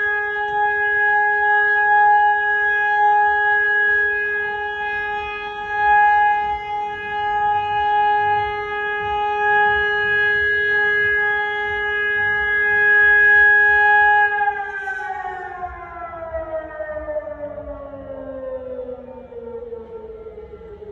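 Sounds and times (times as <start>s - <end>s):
civil defence siren winding down: 0.0s - 20.9s.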